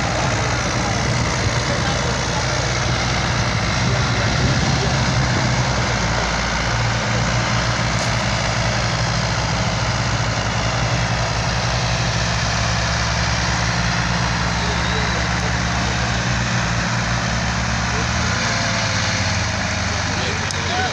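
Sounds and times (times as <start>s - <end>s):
tractor engine droning: 0.0s - 20.9s.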